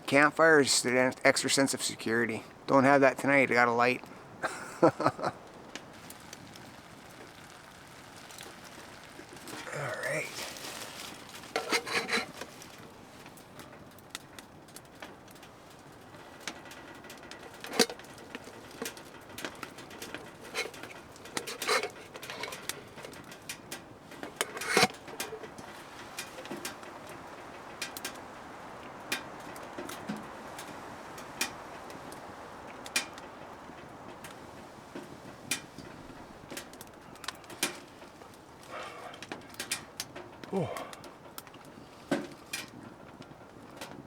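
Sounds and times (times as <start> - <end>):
steady background hiss: 0.0 - 44.0
cooking gear clicks and knocks: 4.9 - 44.0.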